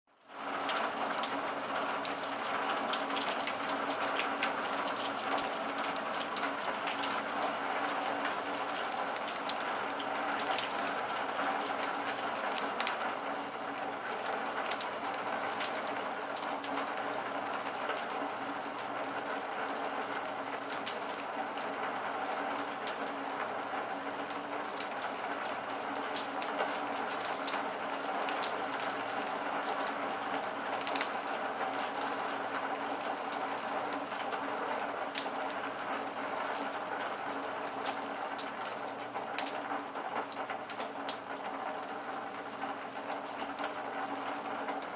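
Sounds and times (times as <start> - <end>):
raindrops ticking on a surface: 0.1 - 44.9
steady rain: 0.1 - 44.9.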